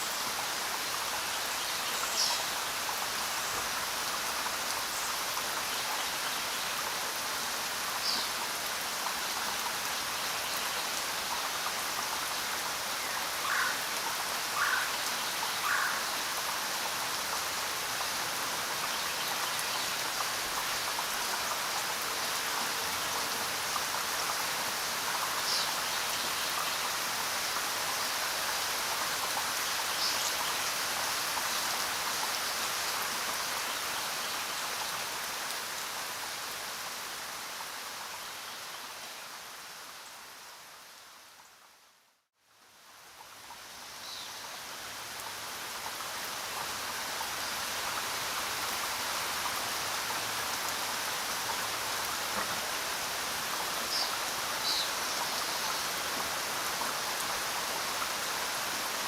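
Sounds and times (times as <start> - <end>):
rain pattering: 0.1 - 38.2, 42.6 - 59.0.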